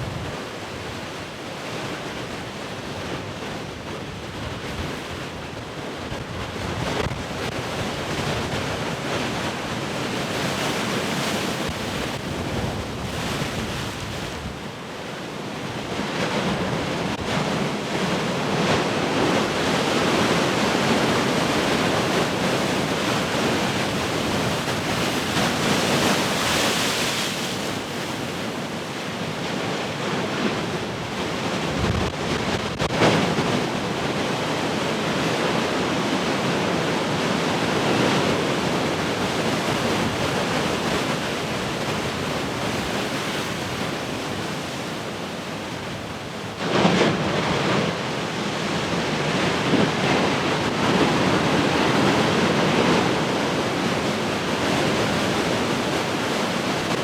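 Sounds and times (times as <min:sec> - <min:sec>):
large ocean waves breaking: 0:00.0 - 0:57.0.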